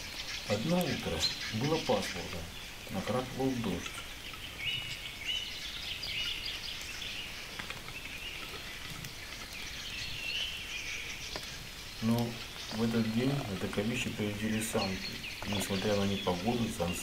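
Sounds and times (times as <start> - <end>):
birds chirping and trilling: 0.0 - 17.0
light rain hiss: 0.0 - 17.0.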